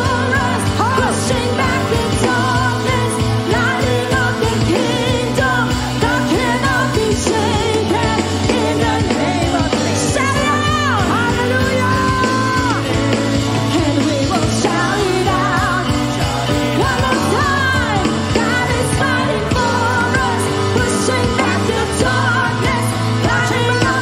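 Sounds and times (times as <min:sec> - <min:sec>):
congregation singing: 0:00.0 - 0:12.9, 0:13.6 - 0:24.0
live worship band: 0:00.0 - 0:24.0
woman singing into a microphone: 0:00.0 - 0:24.0.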